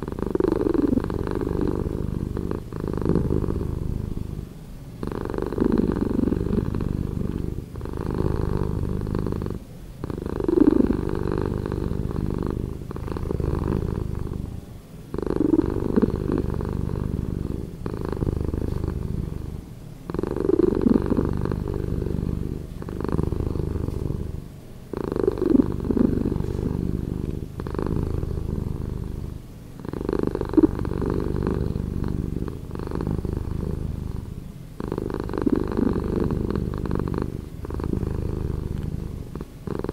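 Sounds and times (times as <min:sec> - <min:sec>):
slowed cat purring: 0:00.0 - 0:39.9.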